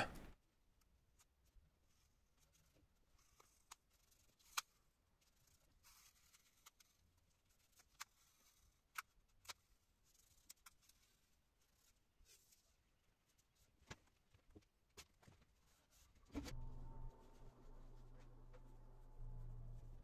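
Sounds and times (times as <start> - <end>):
masking tape rustling: 1.1 - 20.0.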